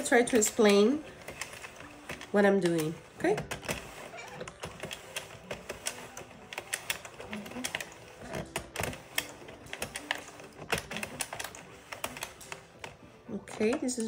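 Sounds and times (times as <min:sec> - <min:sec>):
plastic needles clicking: 0:00.0 - 0:14.0.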